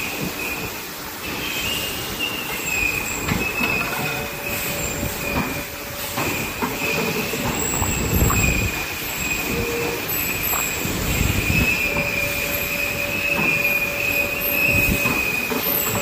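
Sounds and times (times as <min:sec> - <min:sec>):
machine high whine: 0:02.7 - 0:16.0.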